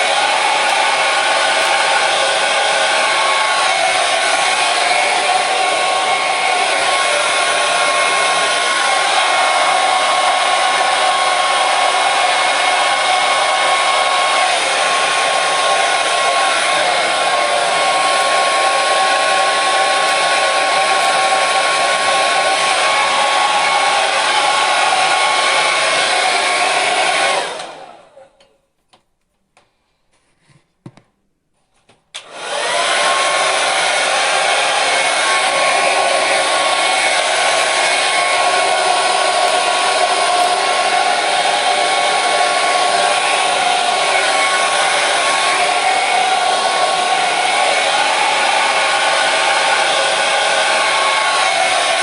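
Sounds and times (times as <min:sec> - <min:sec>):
hair dryer blowing with whine: 0:00.0 - 0:28.2, 0:32.2 - 0:52.0.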